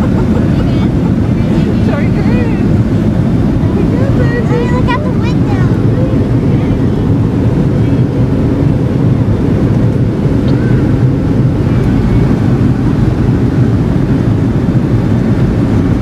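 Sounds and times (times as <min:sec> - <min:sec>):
jet engine noise: 0:00.0 - 0:16.0
plane rolling along runway: 0:00.0 - 0:16.0.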